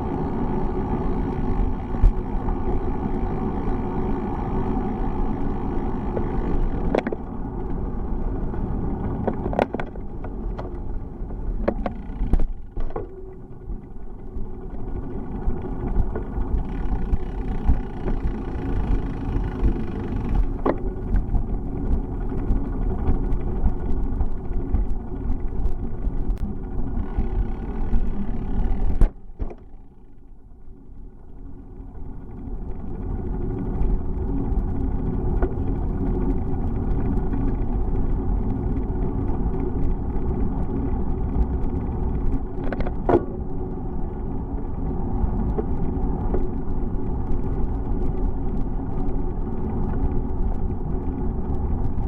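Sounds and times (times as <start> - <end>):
sharp clicks and rattles: 0.0 - 31.4, 32.1 - 52.0
wind and road noise: 0.0 - 52.0.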